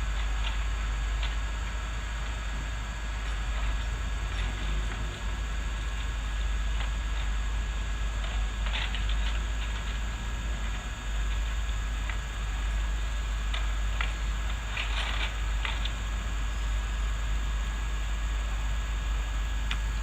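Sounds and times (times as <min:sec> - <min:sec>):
backhoe engine rumbling: 0:00.0 - 0:07.4, 0:08.1 - 0:20.0.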